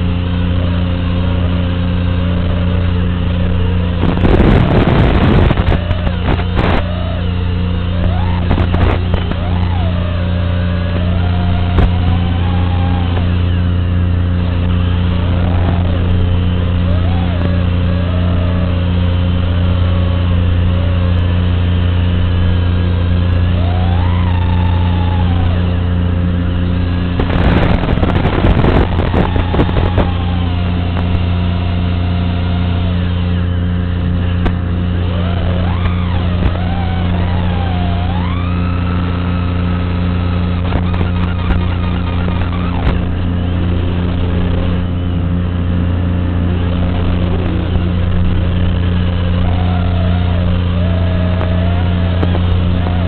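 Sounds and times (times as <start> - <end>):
electrical hum: 0.0 - 53.0
quadcopter motors whining: 0.0 - 53.0
rough crackling burst: 0.0 - 53.0.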